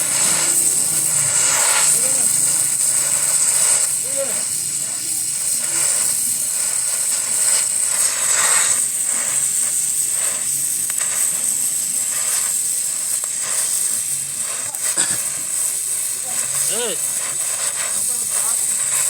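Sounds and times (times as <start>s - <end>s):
welding torch flame hissing: 0.0s - 19.0s.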